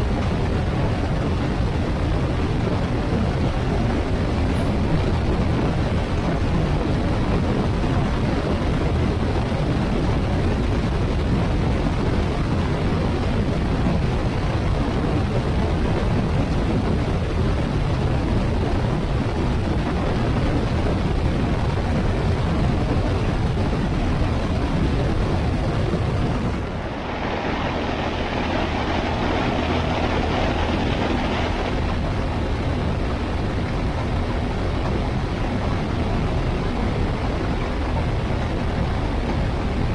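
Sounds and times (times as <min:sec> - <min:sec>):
motorcycle engine and road noise: 0:00.0 - 0:39.9
wind rush: 0:00.0 - 0:39.9.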